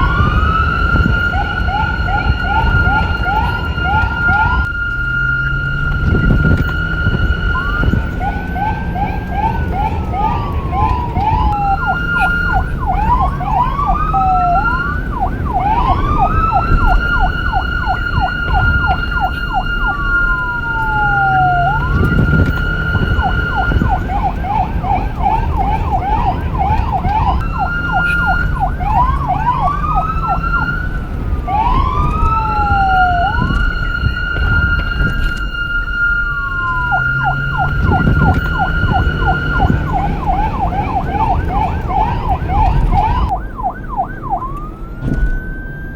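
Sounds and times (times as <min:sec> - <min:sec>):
police car siren wailing and yelping: 0:00.0 - 0:45.9.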